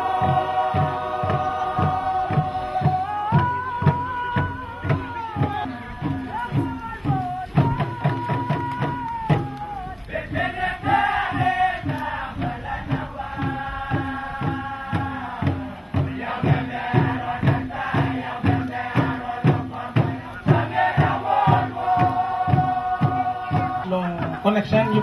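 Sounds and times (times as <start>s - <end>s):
group chanting harmonised notes: 0.0s - 9.1s, 10.1s - 24.1s
hand drums beating: 0.0s - 25.0s.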